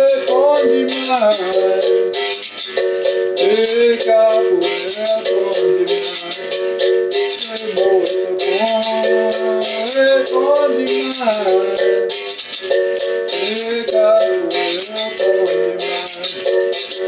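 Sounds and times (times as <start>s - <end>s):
basket rattle shaking: 0.0s - 17.0s
man singing: 0.0s - 17.0s.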